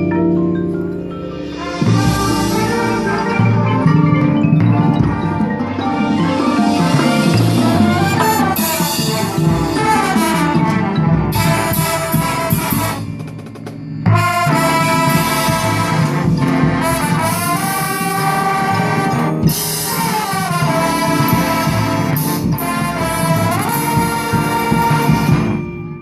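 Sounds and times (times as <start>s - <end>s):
brass section playing chords: 1.4s - 13.4s, 14.1s - 25.7s.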